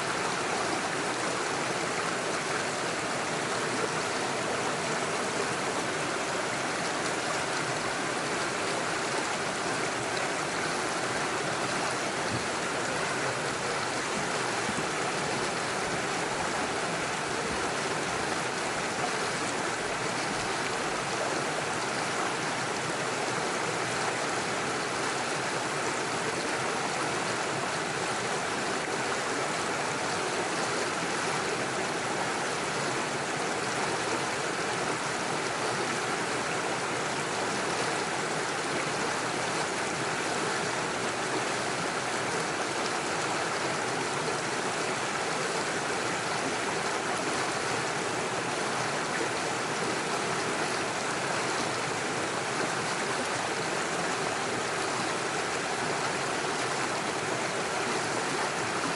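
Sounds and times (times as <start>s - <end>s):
stream splashing over stones: 0.0s - 58.9s.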